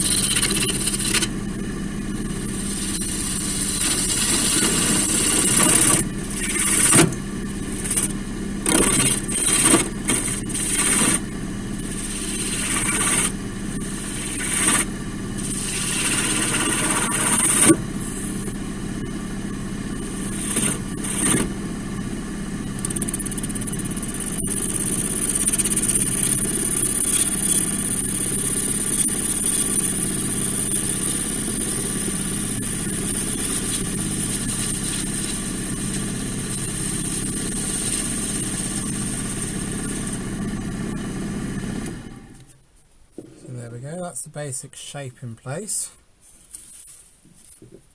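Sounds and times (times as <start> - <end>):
gouge cutting spinning log: 0.0 - 42.3
wood lathe motor hum: 0.0 - 42.5.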